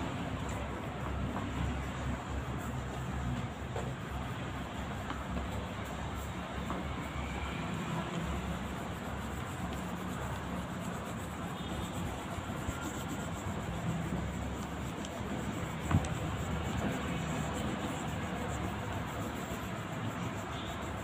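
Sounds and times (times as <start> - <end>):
oil pastel scrubbing on paper: 0.0 - 21.0.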